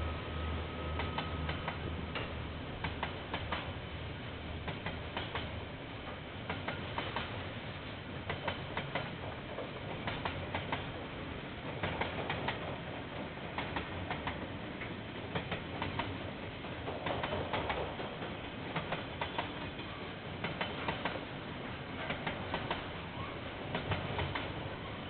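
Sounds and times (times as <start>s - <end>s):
freight train rumbling past: 0.0s - 25.0s
wheels clicking over rail joints: 1.0s - 3.7s, 4.6s - 7.4s, 8.3s - 10.9s, 11.6s - 21.3s, 21.9s - 24.7s.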